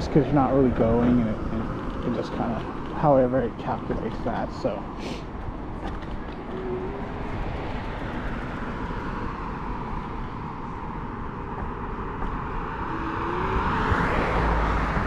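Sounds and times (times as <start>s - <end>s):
road and tyre noise: 0.0s - 15.0s
wind rumbling on microphone: 0.0s - 15.0s.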